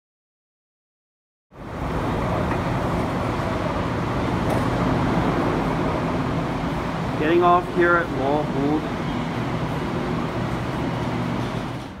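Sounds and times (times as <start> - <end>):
train humming and rumbling: 1.6 - 12.0.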